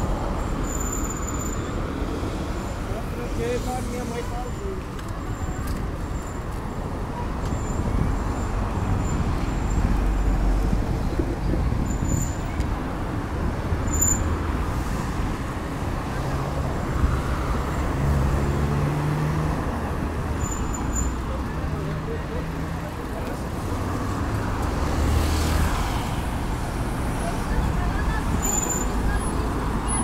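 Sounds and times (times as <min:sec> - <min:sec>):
cars passing on street: 0:00.0 - 0:30.0.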